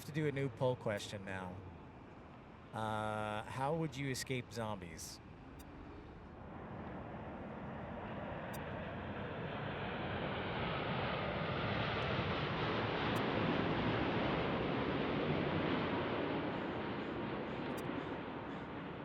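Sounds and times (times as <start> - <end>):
jet airliner engine: 0.0 - 19.0.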